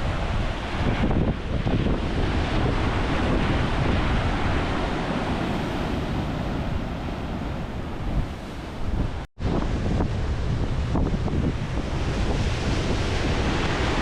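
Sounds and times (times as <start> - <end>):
ocean surf breaking on shore: 0.0 - 14.0
wind buffeting microphone: 0.0 - 14.0.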